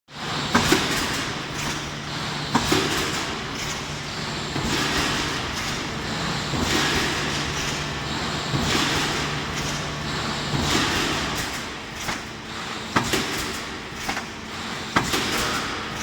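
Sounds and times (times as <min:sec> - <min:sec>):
machine humming: 0:00.2 - 0:13.6
sharp machine knock: 0:00.5 - 0:01.8, 0:02.4 - 0:14.3, 0:14.9 - 0:16.0.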